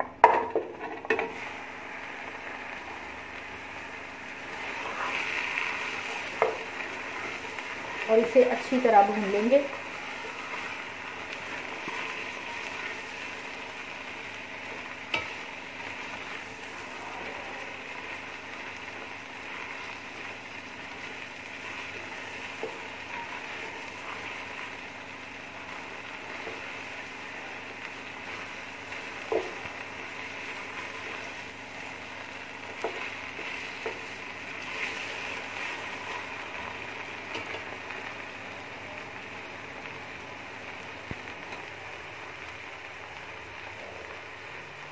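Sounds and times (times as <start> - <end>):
meat sizzling in hot oil: 0.2 - 44.9.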